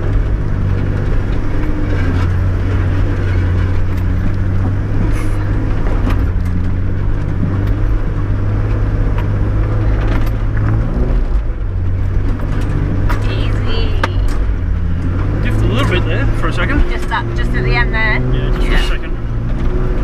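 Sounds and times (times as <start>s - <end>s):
body knocks and rattles: 0.0s - 16.1s
car engine running low: 0.0s - 20.0s.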